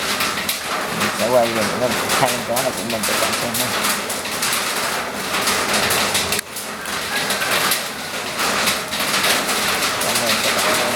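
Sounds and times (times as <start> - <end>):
steady rain falling: 0.0 - 10.9.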